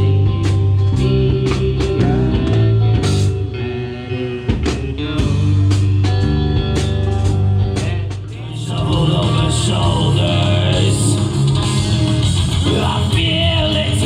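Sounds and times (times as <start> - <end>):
blues-rock band playing: 0.0 - 14.0
drum kit: 0.0 - 14.0
electric guitar: 0.0 - 14.0
low bass notes: 0.0 - 14.0.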